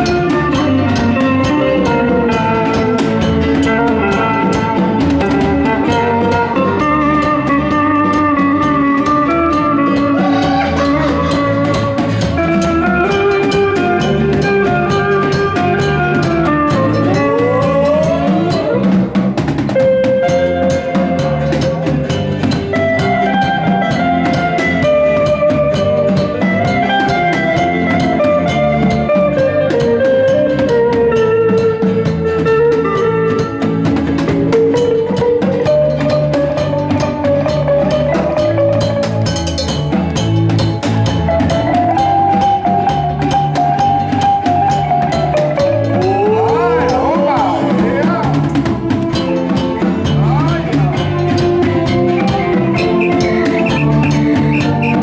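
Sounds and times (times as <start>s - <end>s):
bass guitar: 0.0s - 55.0s
drum kit: 0.0s - 55.0s
electric guitar melody: 0.0s - 55.0s.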